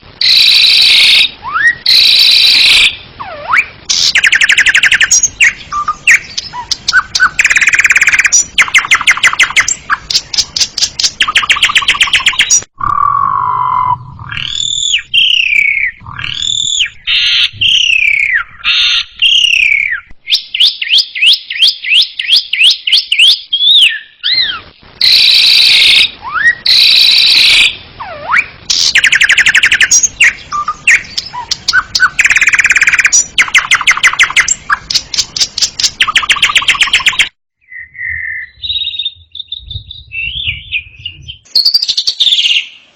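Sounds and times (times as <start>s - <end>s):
bird whistled notes: 0.3s - 42.8s.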